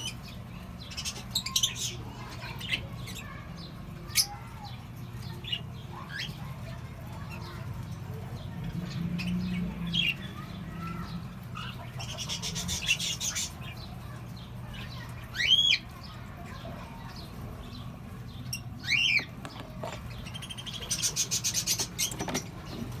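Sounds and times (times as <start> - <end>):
raspy bird chatter: 0.0 - 23.0.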